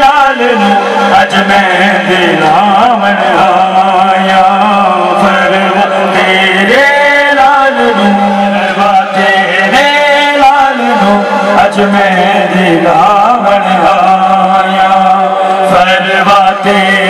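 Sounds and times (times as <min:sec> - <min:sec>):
person chanting over loudspeakers: 0:00.0 - 0:17.0.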